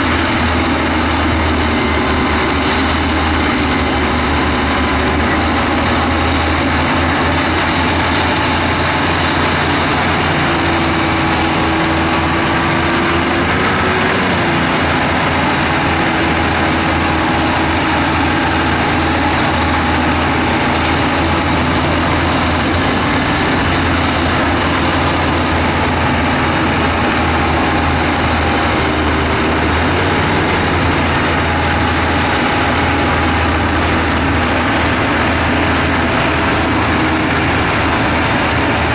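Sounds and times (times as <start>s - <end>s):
heavy diesel engine running: 0.0s - 38.9s
whining tones: 0.0s - 38.9s.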